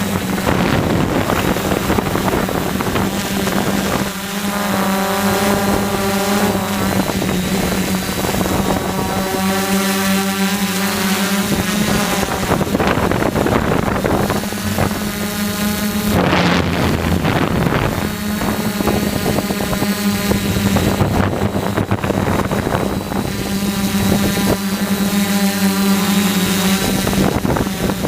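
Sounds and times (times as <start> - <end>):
drone motors humming: 0.0 - 28.0
wind buffeting microphone: 0.0 - 28.0.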